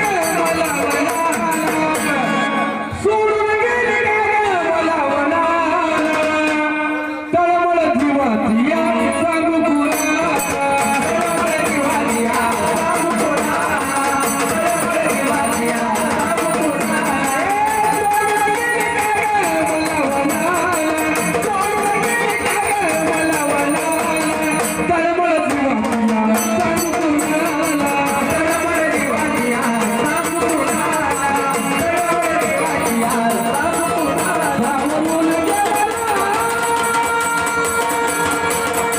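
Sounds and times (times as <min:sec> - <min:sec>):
instruments and percussion: 0:00.0 - 0:38.9
person singing folk song: 0:00.0 - 0:38.9.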